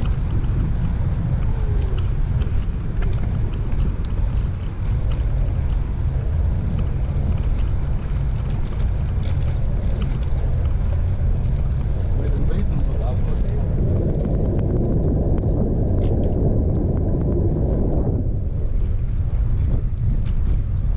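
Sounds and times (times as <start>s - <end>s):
wind rumble on microphone: 0.0s - 20.9s.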